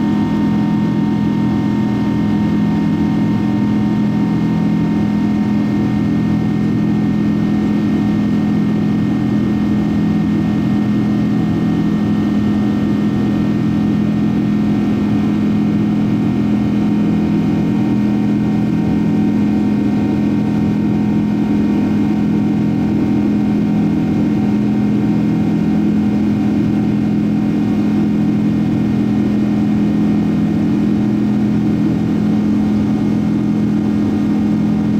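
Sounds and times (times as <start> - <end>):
jet engine cabin drone: 0.0 - 34.9.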